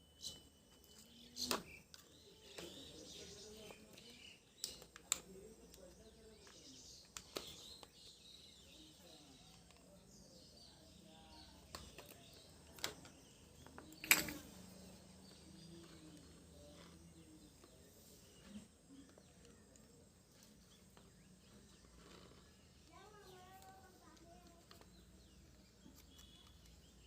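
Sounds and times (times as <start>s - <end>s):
faint background noise: 0.0s - 27.0s.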